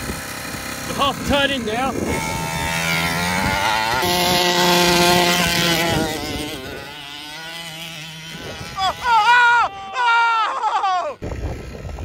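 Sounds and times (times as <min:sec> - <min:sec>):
two-stroke engine revving: 0:00.0 - 0:10.2.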